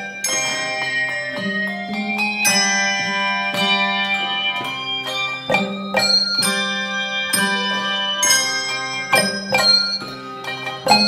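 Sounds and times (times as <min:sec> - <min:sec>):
handbell choir playing: 0:00.0 - 0:11.0.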